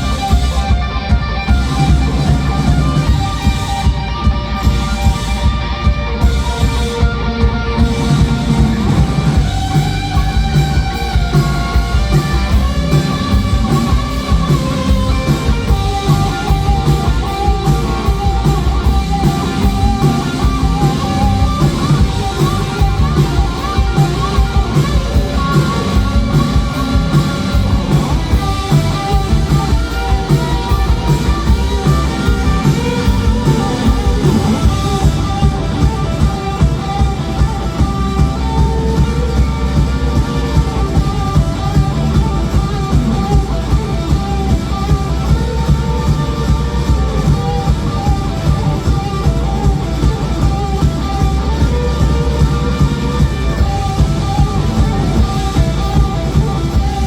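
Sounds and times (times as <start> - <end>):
drums: 0.0 - 57.0
electric guitar lead: 0.0 - 57.0
heavy low end: 0.0 - 57.0.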